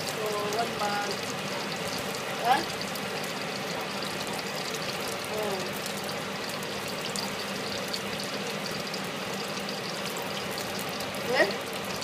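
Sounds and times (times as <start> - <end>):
prawns sizzling in hot oil: 0.0 - 12.0.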